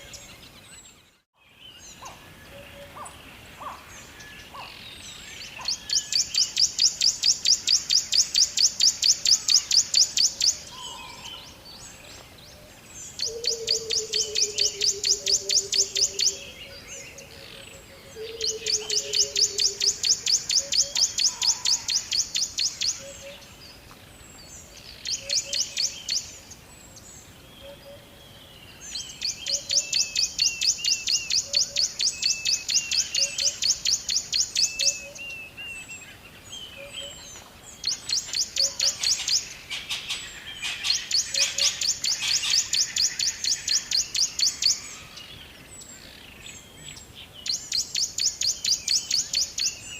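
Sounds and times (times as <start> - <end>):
other birds chirping: 0.0 - 49.9.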